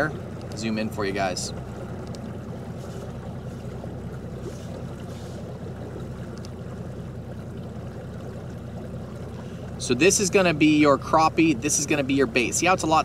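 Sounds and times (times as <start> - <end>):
outboard engine idling: 0.0 - 13.0
wind and water rushing: 0.0 - 13.0.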